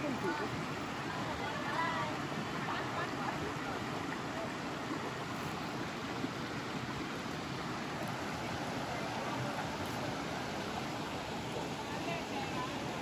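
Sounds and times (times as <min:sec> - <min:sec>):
creek water flowing over cascade: 0:00.0 - 0:13.0.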